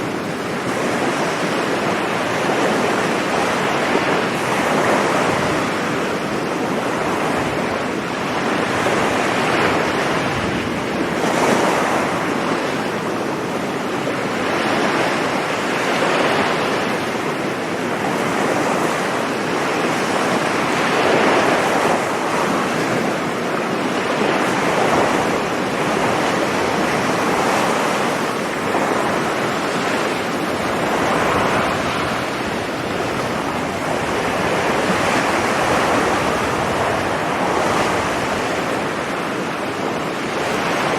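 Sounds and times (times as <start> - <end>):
ocean surf breaking on beach: 0.0 - 40.9
wind on microphone: 0.0 - 40.9.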